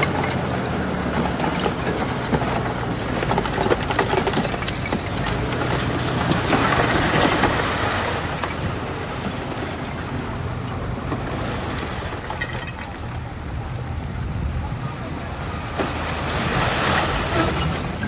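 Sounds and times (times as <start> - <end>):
bulldozer diesel engine: 0.0 - 18.0
tracks clanking and scraping: 0.0 - 18.0.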